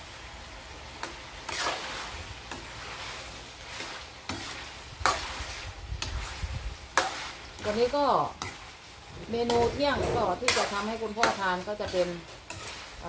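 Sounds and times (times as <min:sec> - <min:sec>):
steady sizzle: 0:00.0 - 0:13.0
metal ladle scraping a wok: 0:01.5 - 0:13.0.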